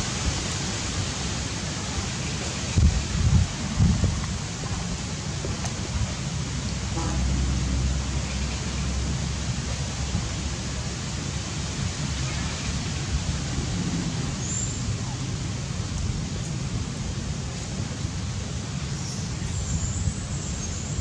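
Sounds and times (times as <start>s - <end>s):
outdoor background rumble: 0.0s - 21.0s.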